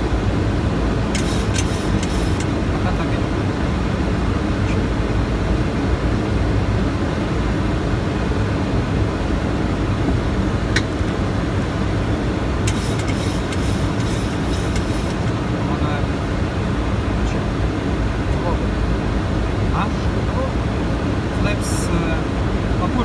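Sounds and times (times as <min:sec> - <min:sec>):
airliner cockpit rumble: 0:00.0 - 0:23.0.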